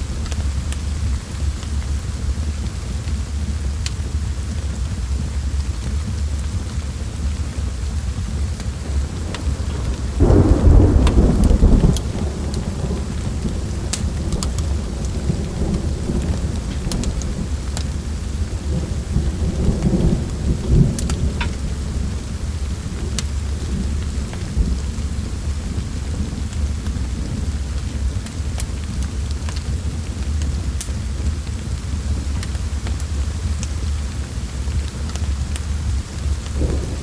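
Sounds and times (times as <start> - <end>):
thunder rumble: 0.0 - 34.0, 35.1 - 37.0
steady rain: 0.0 - 37.0
wood fire crackles: 0.0 - 37.0.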